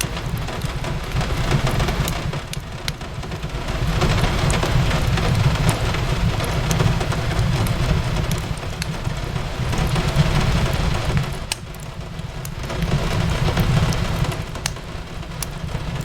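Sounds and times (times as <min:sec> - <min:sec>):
rain on a window: 0:00.0 - 0:16.0
wood fire crackling: 0:00.0 - 0:16.0.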